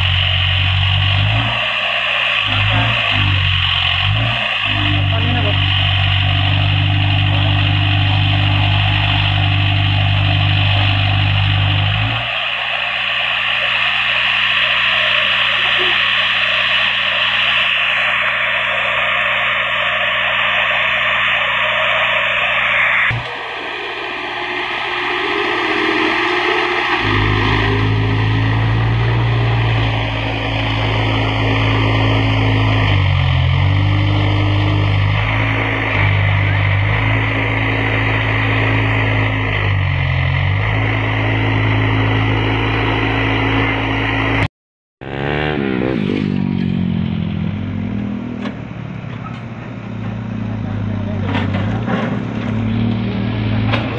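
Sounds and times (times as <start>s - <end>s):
backhoe diesel engine running: 0.0s - 44.5s, 45.9s - 53.9s.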